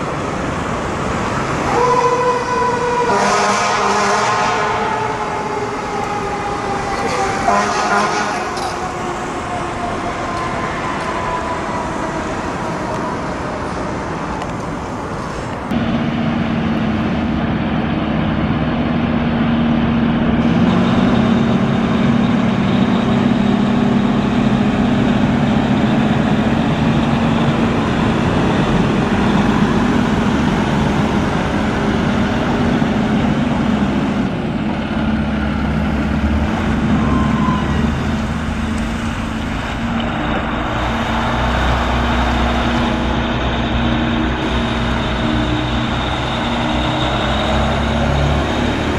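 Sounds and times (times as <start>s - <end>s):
fire truck engines running: 0.0s - 48.9s
road traffic noise: 0.0s - 48.9s.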